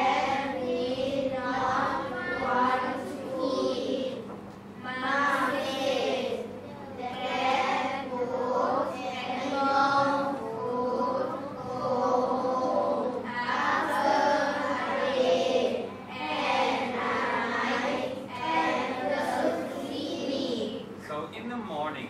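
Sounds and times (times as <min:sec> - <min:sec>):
children reading aloud in unison: 0:00.0 - 0:21.0.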